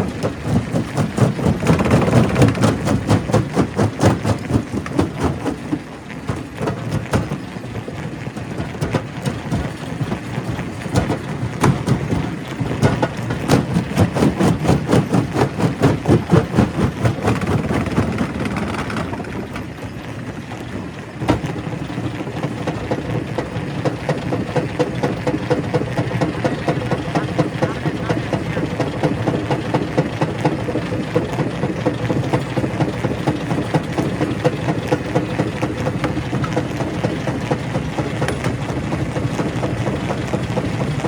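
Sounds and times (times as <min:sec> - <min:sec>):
heavy machine drone: 0:00.0 - 0:41.0.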